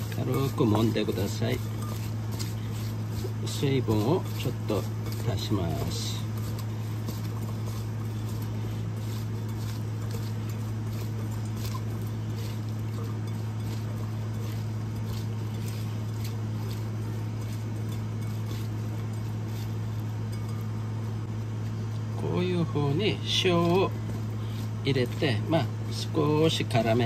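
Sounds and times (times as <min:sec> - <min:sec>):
steady low hum: 0:00.0 - 0:27.0
vegetables rustling in glass bowl: 0:00.0 - 0:27.0.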